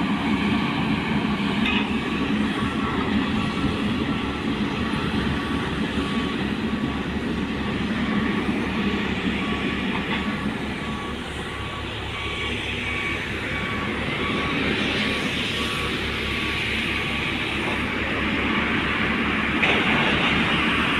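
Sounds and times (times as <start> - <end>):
heavy machine engine running: 0.0 - 20.9
reversing alarm beeps: 0.0 - 20.9.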